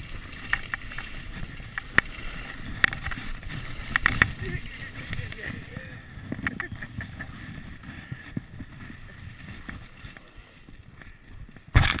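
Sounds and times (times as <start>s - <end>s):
skis scraping over packed snow: 0.0s - 12.0s
wind on microphone: 0.0s - 12.0s.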